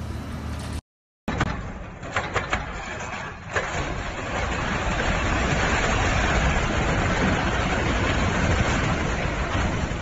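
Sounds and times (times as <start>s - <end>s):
building collapsing rumble: 1.3s - 10.0s.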